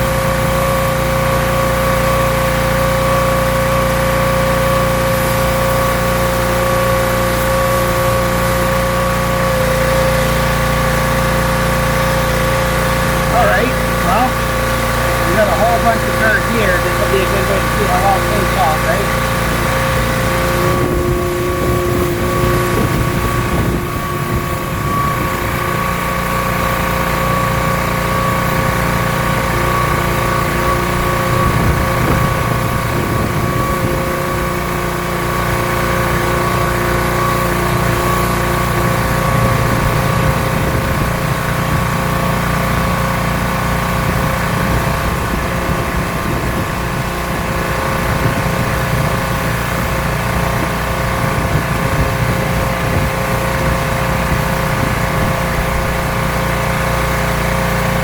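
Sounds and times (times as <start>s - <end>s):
pressure washer engine droning: 0.0s - 58.0s
pump spraying water: 0.0s - 58.0s.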